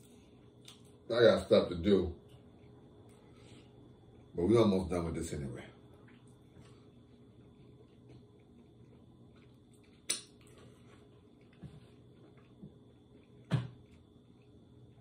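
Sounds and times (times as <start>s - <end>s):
man chewing food: 0.0s - 1.1s, 2.2s - 4.4s, 5.8s - 15.0s.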